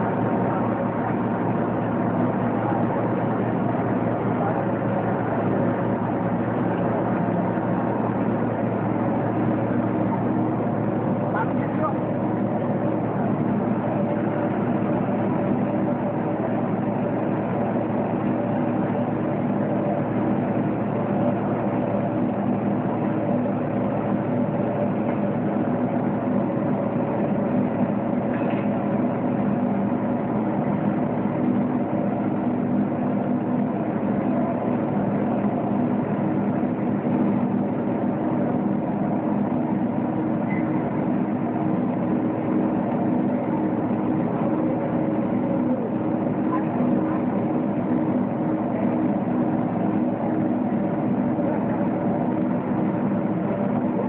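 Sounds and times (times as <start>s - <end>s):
industrial machine hum: 0.0s - 54.0s.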